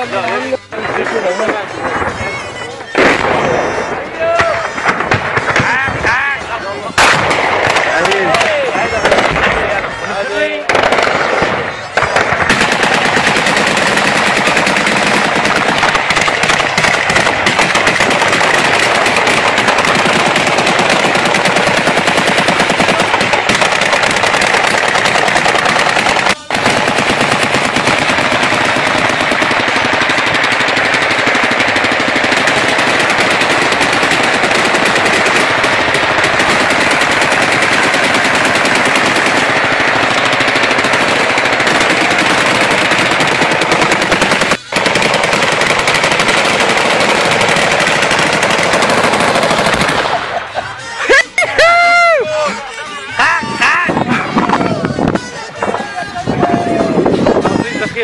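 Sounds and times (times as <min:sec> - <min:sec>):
automatic gunfire: 0:01.3 - 0:06.3, 0:06.9 - 0:50.6.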